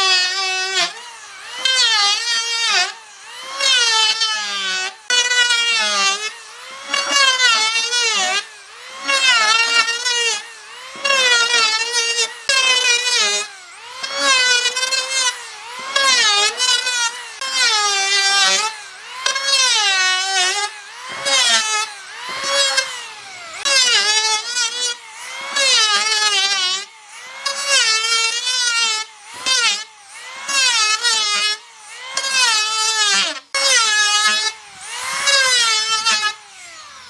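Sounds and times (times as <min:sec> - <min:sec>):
power tool whining on wood: 0:00.0 - 0:37.0.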